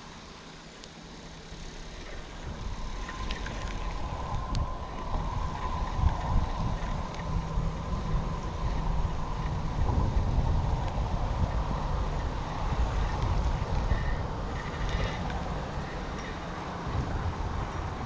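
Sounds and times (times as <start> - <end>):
faint steady whine: 0.0 - 18.0
low rumble of traffic: 0.0 - 18.0
wind buffeting microphone: 1.9 - 18.0.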